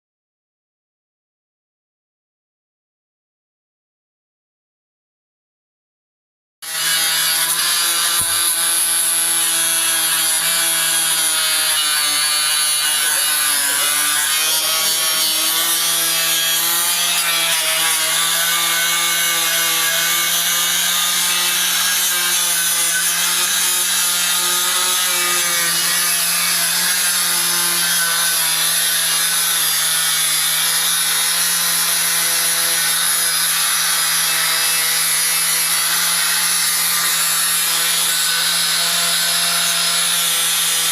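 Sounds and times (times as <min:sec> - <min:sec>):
power tool motor humming: 0:06.6 - 0:40.9.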